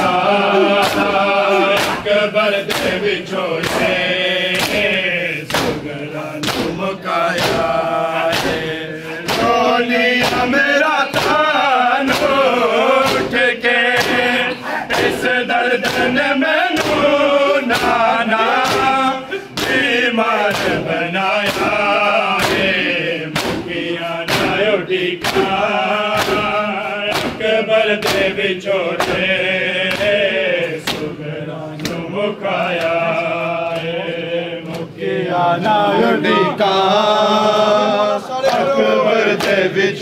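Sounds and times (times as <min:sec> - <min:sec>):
men chanting in chorus: 0:00.0 - 0:40.0
rhythmic chest-beating slaps: 0:00.0 - 0:40.0.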